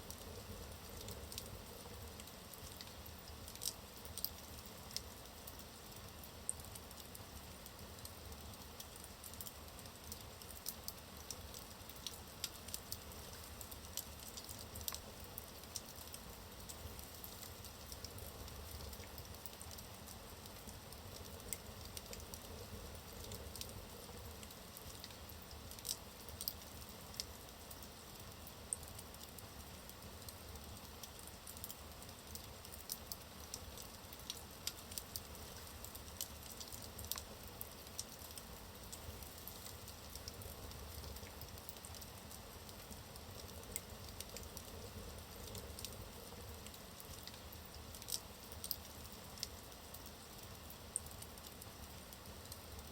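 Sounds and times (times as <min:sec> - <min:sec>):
wood fire burning: 0:00.0 - 0:52.9
logs crackling and popping: 0:00.1 - 0:52.9.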